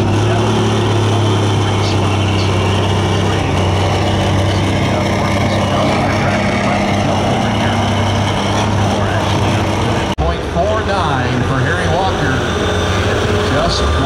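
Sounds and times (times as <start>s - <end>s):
diesel engine running loud: 0.0s - 14.0s.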